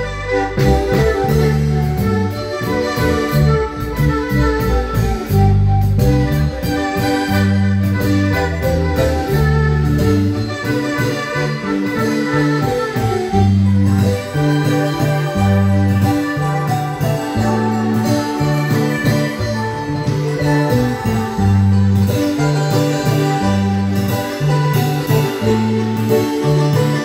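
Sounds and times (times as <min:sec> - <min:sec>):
marimba band dance music: 0:00.0 - 0:27.0.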